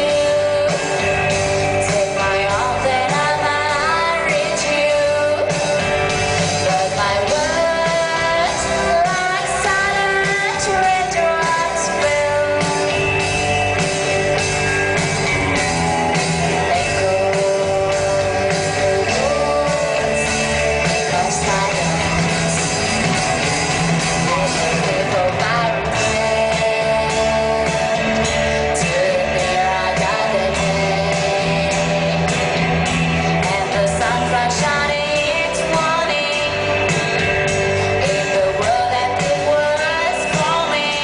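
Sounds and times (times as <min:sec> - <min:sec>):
rhythm guitar: 0:00.0 - 0:41.0
steady drum beat: 0:00.0 - 0:41.0.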